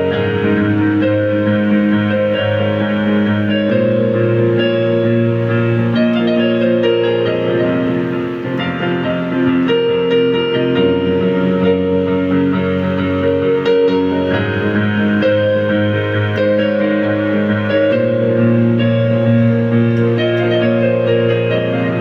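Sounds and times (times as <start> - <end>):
synthesizer keyboard melody: 0.0 - 22.0.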